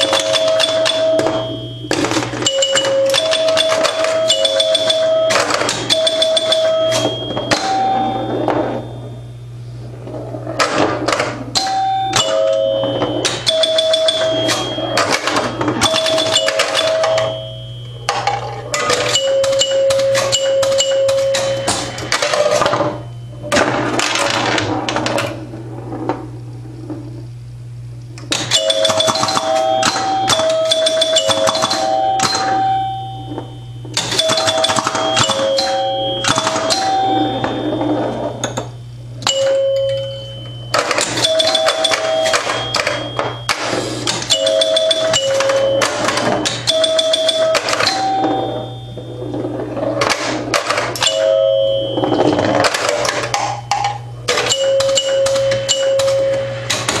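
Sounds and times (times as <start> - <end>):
pinball relays clicking: 0.0 - 9.0, 10.5 - 25.5, 28.2 - 57.0
pinball score chimes: 0.0 - 26.3, 28.2 - 57.0
steady low hum: 0.0 - 57.0.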